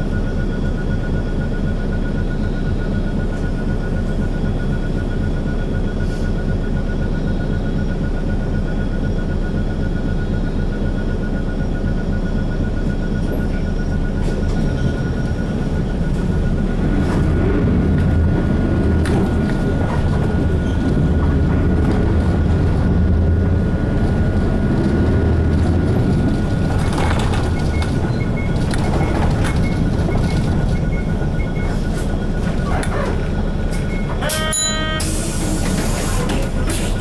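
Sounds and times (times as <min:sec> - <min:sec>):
bus engine and road drone: 0:00.0 - 0:37.0.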